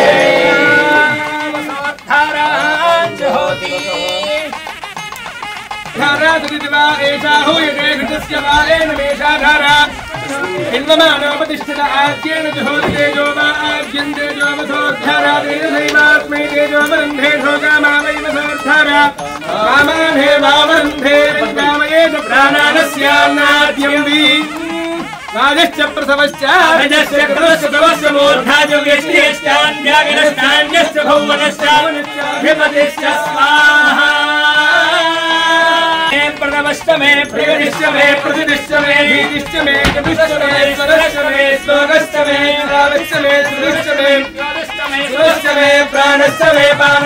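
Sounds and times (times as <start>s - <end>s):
person singing devotional chant: 0.0s - 47.0s.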